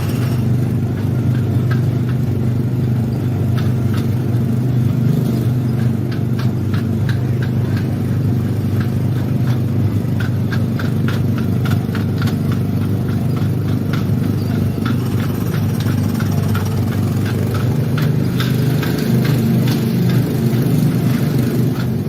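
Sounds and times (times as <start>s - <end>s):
small gasoline engine droning: 0.0s - 22.0s.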